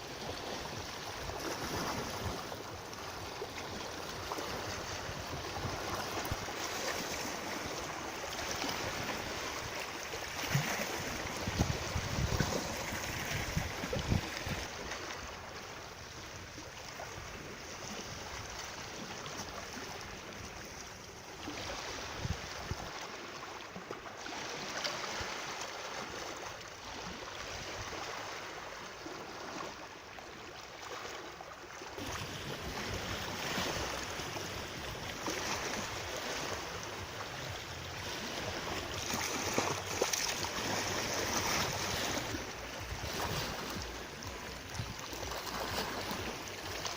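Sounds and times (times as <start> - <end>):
water flowing and splashing: 0.0 - 46.9.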